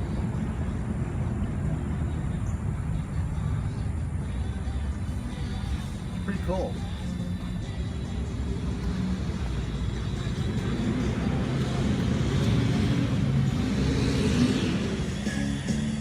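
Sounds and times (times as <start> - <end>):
vehicle passing: 0.0 - 16.0.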